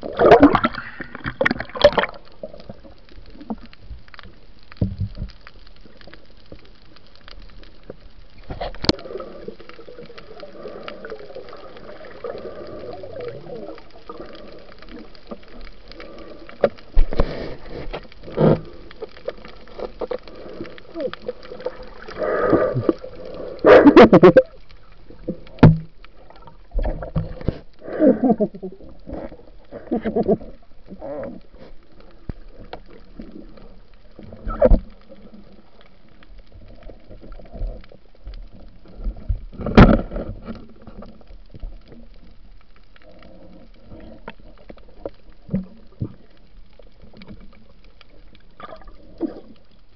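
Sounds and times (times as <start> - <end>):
steady low hiss: 0.0 - 49.9
underwater gurgles and bubbles: 0.0 - 49.9.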